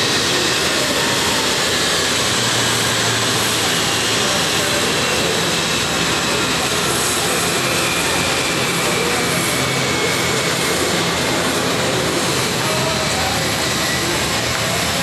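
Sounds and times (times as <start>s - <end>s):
faint high engine whine: 0.0s - 15.0s
jet engines running: 0.0s - 15.0s.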